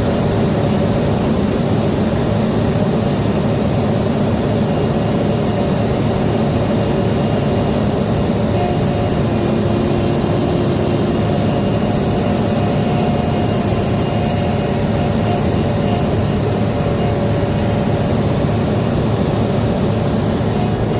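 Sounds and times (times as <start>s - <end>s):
excavator diesel engine running: 0.0s - 20.9s
faint high whines: 0.0s - 20.9s.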